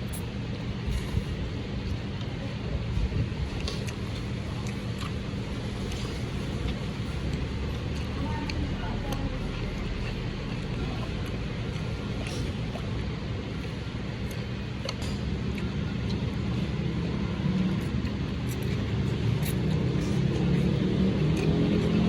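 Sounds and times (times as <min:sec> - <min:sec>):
vehicle running rumble: 0:00.0 - 0:22.0.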